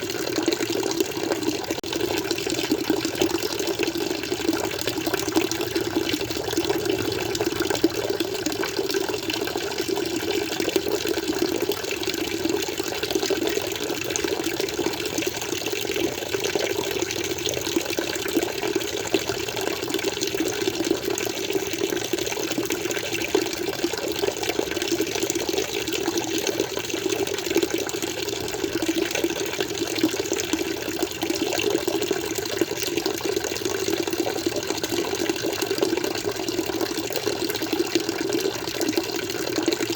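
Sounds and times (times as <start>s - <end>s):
water flowing in an aquarium: 0.0s - 39.9s.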